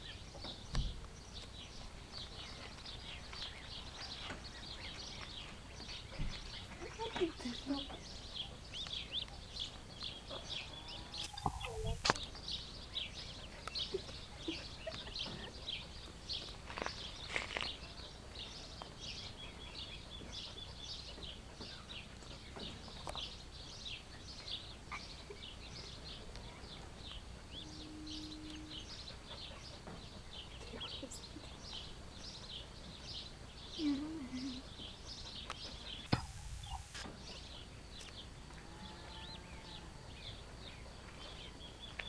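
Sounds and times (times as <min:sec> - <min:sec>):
ducklings peeping: 0:02.5 - 0:17.1, 0:17.7 - 0:38.2.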